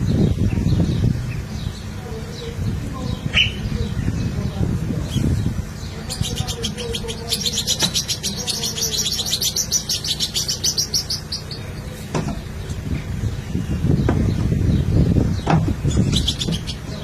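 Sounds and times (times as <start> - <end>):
bird chirping rapidly: 0.0 - 17.0.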